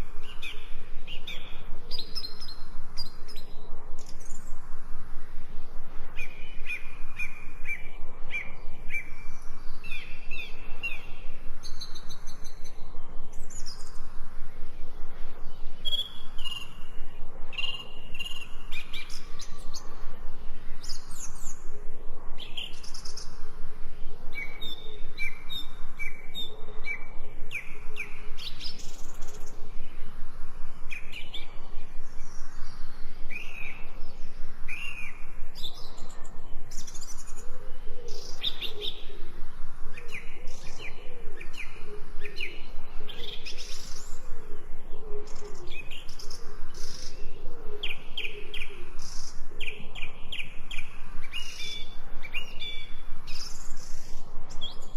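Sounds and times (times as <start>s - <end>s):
birds chirping and singing: 0.0s - 4.6s, 6.1s - 23.4s, 24.0s - 30.0s, 30.8s - 54.9s.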